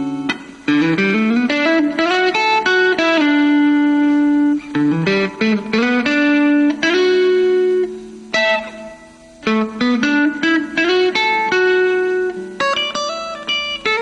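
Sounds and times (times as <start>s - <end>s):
electric guitar melody: 0.0s - 14.0s.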